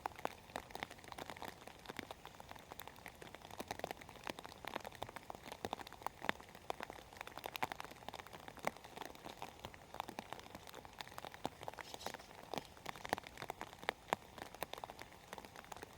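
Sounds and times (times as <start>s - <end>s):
raindrops tapping and pattering: 0.0s - 15.9s
soft hiss of rainfall: 0.0s - 15.9s.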